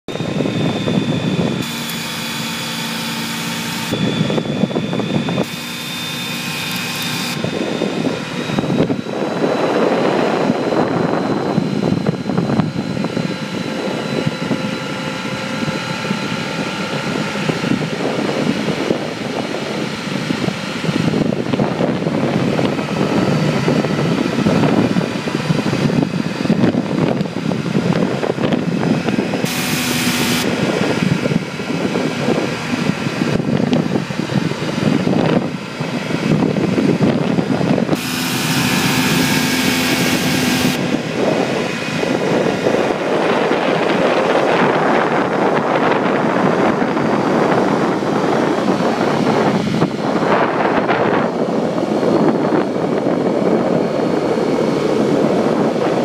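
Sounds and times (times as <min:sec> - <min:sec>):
vehicle engine hum: 0:00.0 - 0:56.0
wind rush: 0:00.1 - 0:56.0.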